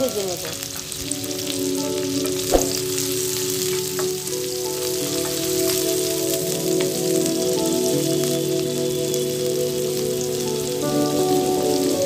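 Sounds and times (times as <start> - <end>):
onions sizzling in hot oil: 0.0 - 12.0
soft background music: 0.0 - 12.0.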